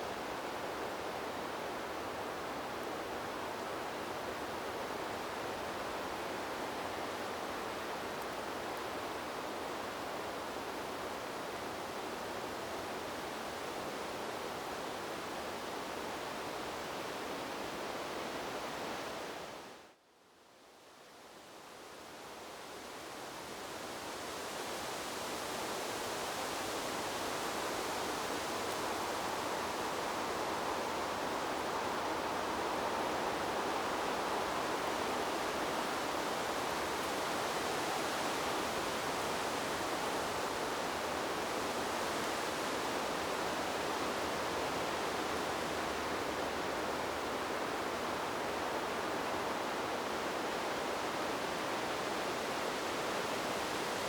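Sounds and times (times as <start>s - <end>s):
wind blowing through trees: 0.0s - 54.0s.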